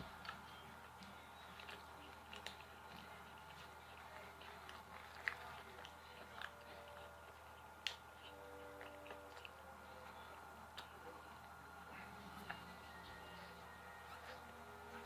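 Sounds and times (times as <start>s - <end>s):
faint chewing: 0.0s - 15.0s.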